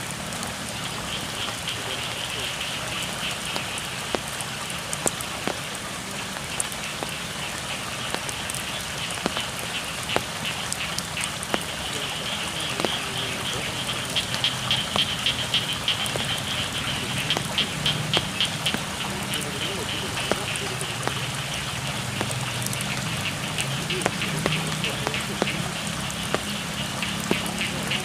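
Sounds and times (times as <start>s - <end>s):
steady rain falling: 0.0s - 28.0s
frogs calling in chorus: 0.3s - 28.0s
sharp drop ticks: 1.3s - 5.8s, 6.4s - 28.0s.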